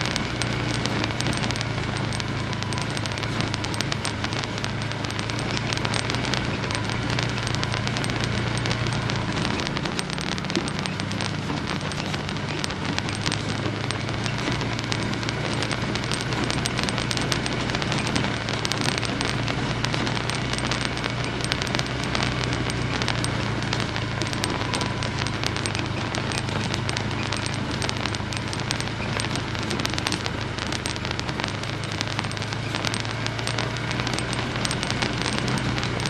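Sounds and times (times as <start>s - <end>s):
crackling and clicking: 0.0s - 36.0s
low engine drone: 0.0s - 36.0s.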